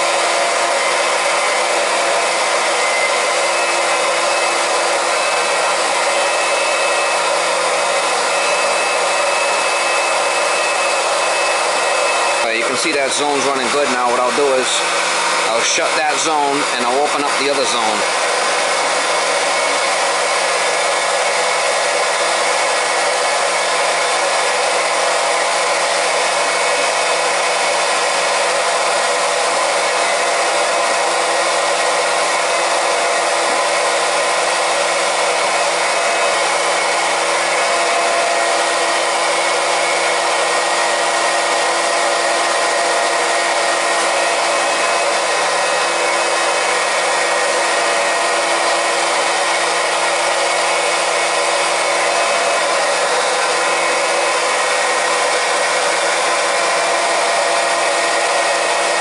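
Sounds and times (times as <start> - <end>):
electric pump running: 0.0 - 59.0.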